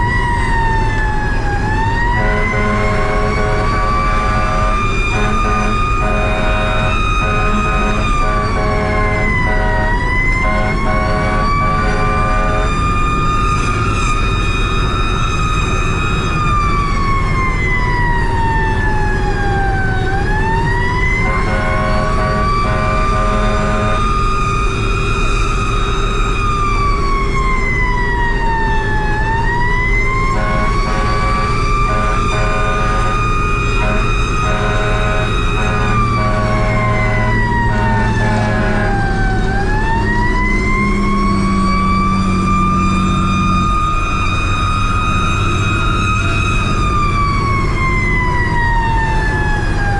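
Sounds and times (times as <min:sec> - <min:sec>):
fire truck siren wailing: 0:00.0 - 0:49.9
lower pulsing siren tone: 0:00.0 - 0:49.9
truck engine rumble: 0:00.0 - 0:49.9.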